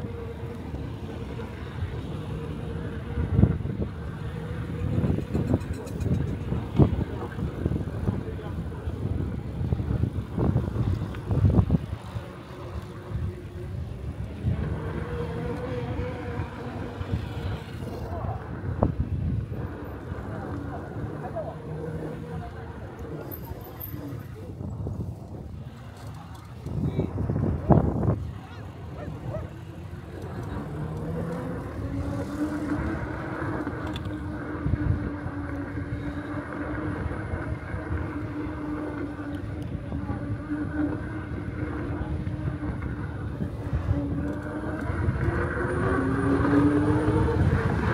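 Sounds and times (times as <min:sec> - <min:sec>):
vehicle humming: 0:00.0 - 0:47.9
wind buffeting microphone: 0:00.0 - 0:47.9.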